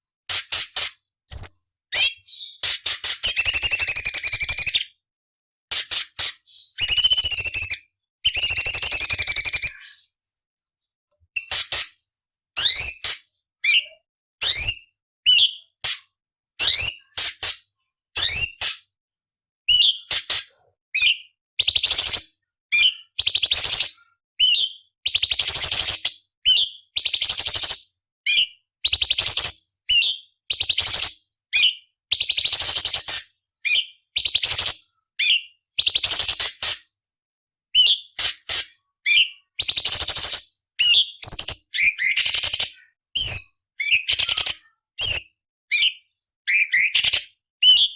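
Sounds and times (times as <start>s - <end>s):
bird singing whistles and rasps: 0.3s - 5.0s, 5.8s - 10.2s, 12.6s - 16.0s, 16.6s - 17.6s, 18.2s - 18.9s, 19.7s - 36.9s, 37.7s - 47.9s.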